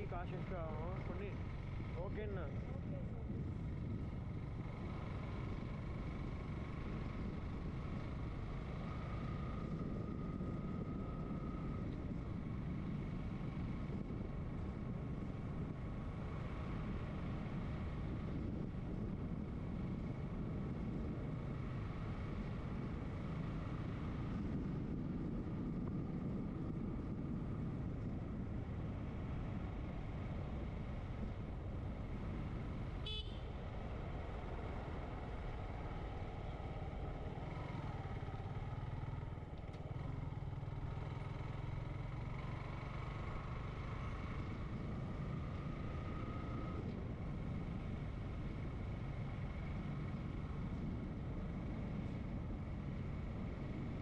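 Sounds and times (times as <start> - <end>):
road and wind noise: 0.0 - 54.0
motorcycle engine running: 0.5 - 54.0.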